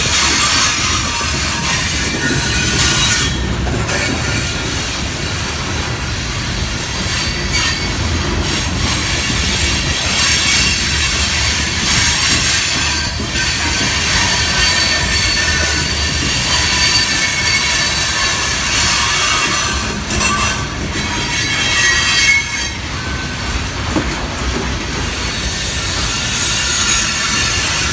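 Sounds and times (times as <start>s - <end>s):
train wheels squealing on rail: 0.0s - 27.9s
wheels rumbling on track: 0.0s - 27.9s.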